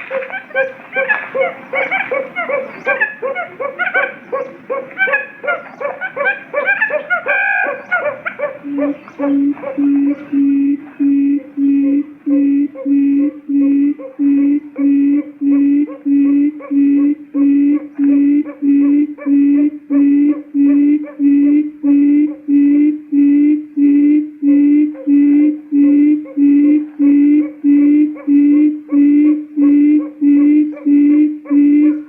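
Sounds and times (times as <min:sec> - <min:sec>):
quail lure call hooting: 0:00.0 - 0:32.0.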